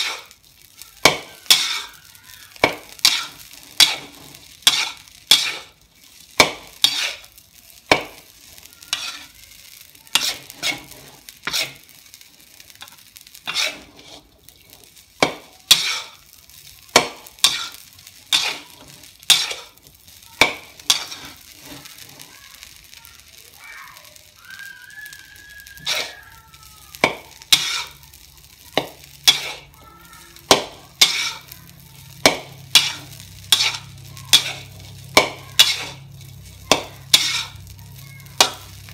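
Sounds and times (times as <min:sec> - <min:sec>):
rice sizzling: 0:00.0 - 0:38.9.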